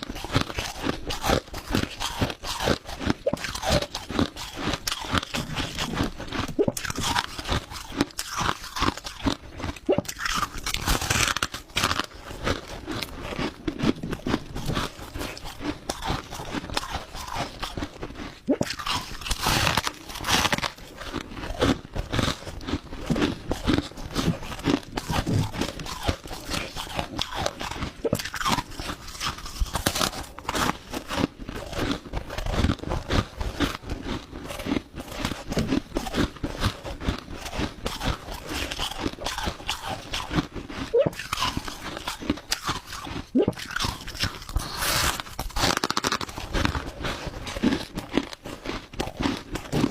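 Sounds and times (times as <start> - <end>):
crunching ice being chewed: 0.0 - 49.9.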